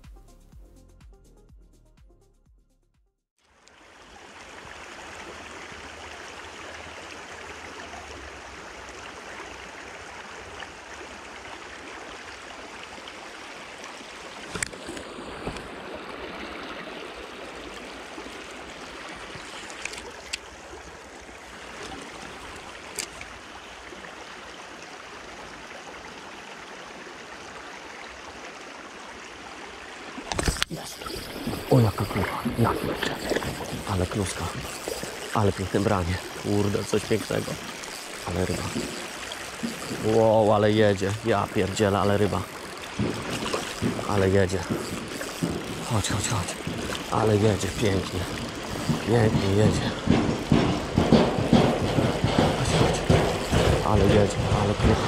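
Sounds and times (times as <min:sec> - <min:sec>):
river water rushing over stones: 0:03.5 - 0:55.0.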